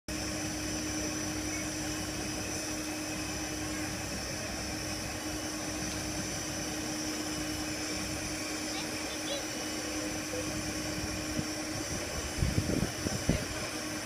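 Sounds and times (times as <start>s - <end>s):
steady hum: 0.1s - 14.0s
steam locomotive hissing: 0.1s - 14.0s.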